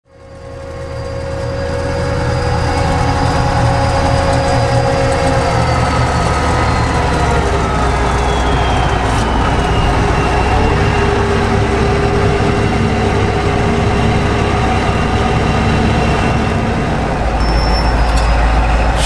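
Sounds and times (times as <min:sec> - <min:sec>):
high engine whine: 0:00.0 - 0:19.0
tractor diesel engine drone: 0:00.0 - 0:19.0.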